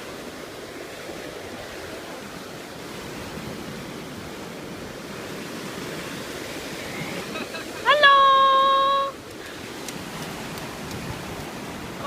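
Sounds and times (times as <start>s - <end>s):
sea waves washing in: 0.0s - 12.0s.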